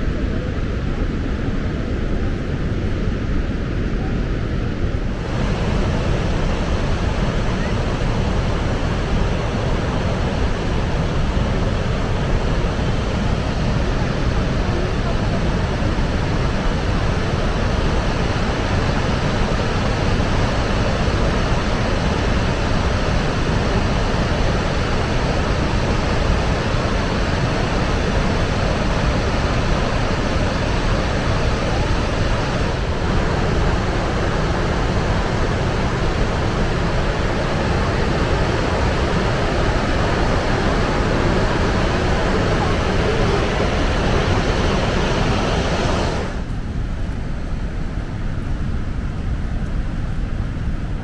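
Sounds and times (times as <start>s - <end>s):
roar of rushing water: 4.6s - 51.0s.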